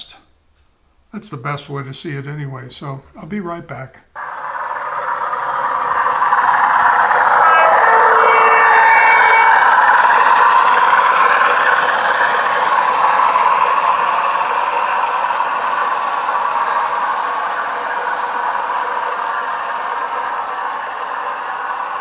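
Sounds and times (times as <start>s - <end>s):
model train engine: 1.2s - 22.0s
wheels rattling on track: 4.2s - 22.0s.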